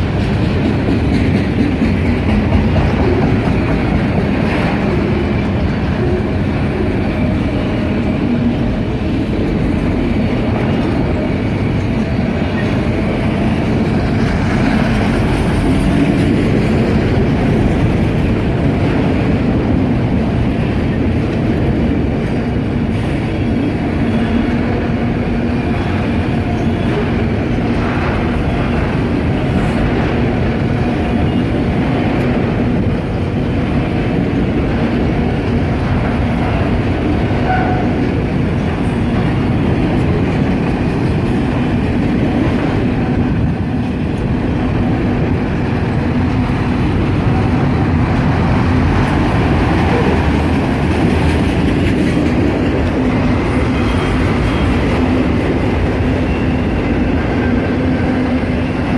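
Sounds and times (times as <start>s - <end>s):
freight train wheels clattering: 0.0s - 58.9s.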